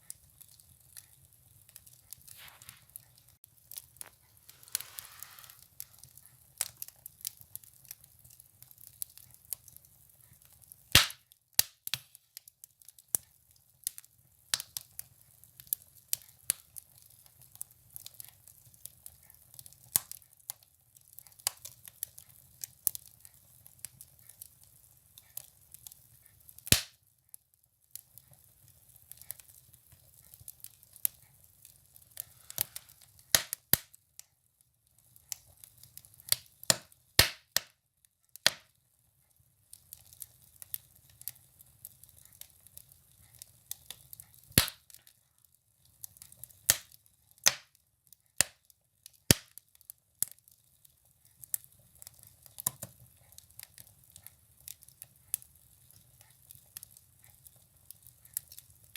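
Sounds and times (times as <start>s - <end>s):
firewood crackling in a stove: 0.0s - 58.9s.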